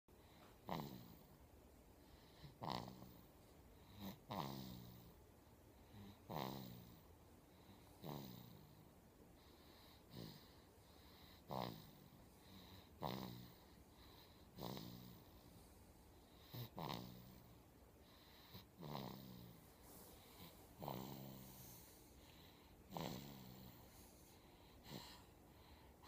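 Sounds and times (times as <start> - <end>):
baby snoring softly: 0.2 - 1.4, 2.0 - 26.0.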